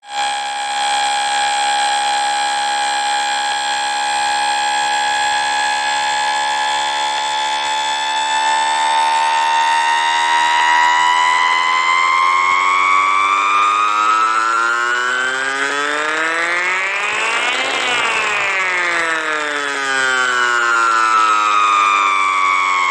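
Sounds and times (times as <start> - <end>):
falling electronic alarm tone: 0.0 - 22.9
rising electronic alarm tone: 0.1 - 22.9.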